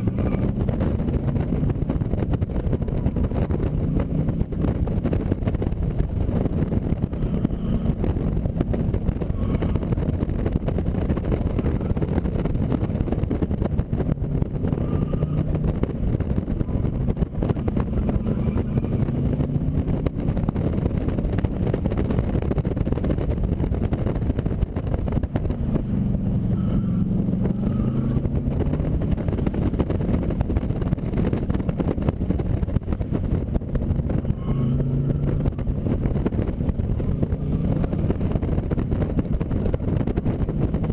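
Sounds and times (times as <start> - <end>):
car engine revving through gears: 0.0 - 40.9
wind and road noise: 0.0 - 40.9.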